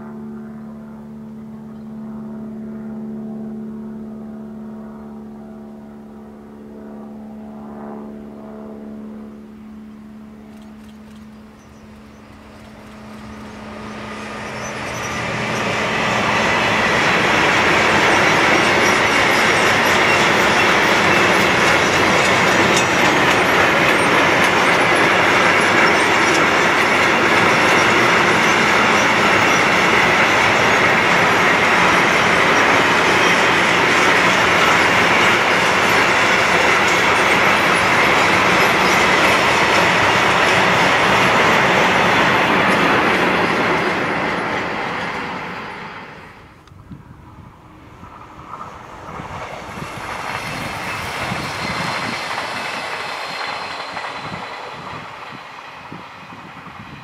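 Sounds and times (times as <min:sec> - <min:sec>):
train wheels rolling on rails: 0:10.5 - 0:57.0.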